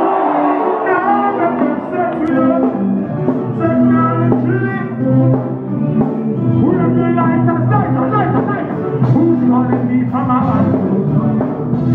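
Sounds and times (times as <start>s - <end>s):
live reggae music: 0.0s - 11.9s
deep bass line: 1.2s - 11.9s.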